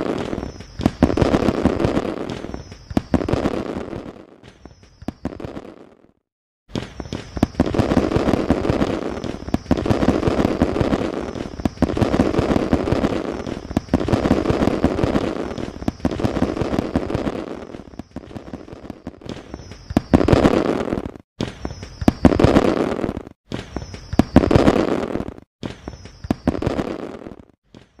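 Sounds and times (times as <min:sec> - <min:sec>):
fireworks whistle bang and crackle: 0:00.0 - 0:06.1, 0:06.7 - 0:28.0.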